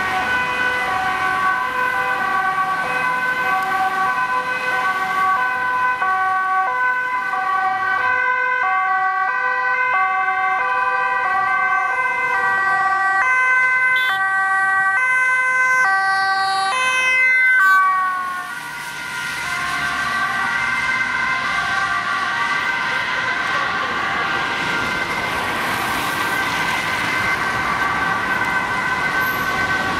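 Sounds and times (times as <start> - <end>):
ambulance two-tone siren: 0.0 - 29.9.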